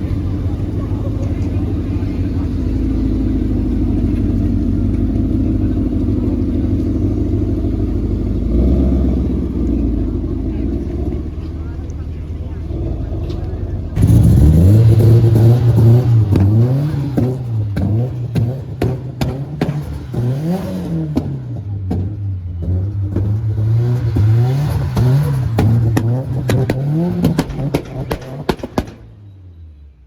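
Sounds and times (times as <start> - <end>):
sharp exhaust cracks: 0.0 - 22.1, 23.0 - 29.3
car engine revving: 0.0 - 29.2.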